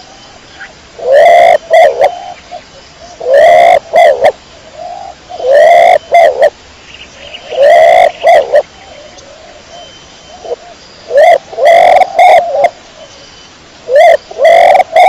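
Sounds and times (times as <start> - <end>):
pigeon cooing: 0.5 - 6.5, 7.4 - 13.1, 13.9 - 15.0.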